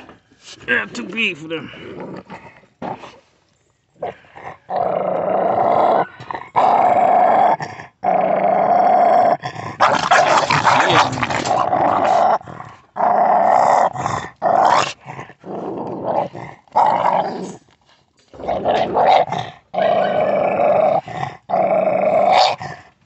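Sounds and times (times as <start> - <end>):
dogs growling while eating: 1.7 - 3.2, 4.0 - 17.7, 18.3 - 23.0.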